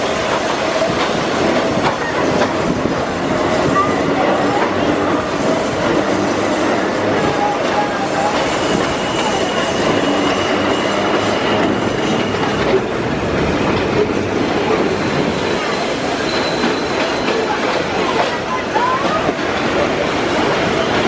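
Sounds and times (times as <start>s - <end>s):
high wheel squeal: 0.0s - 13.8s, 14.4s - 19.2s
train car wheels rumbling and rattling: 0.0s - 21.0s.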